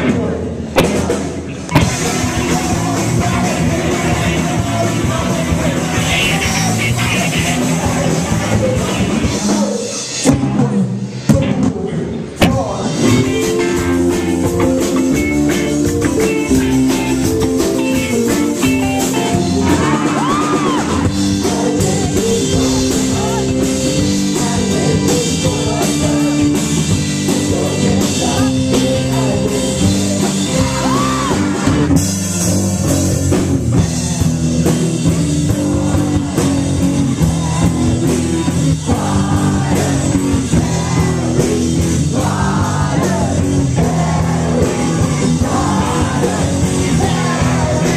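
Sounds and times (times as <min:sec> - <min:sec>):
person singing: 0:00.0 - 0:31.7, 0:33.7 - 0:47.9
drum kit: 0:00.0 - 0:47.9
electric guitar: 0:00.0 - 0:47.9.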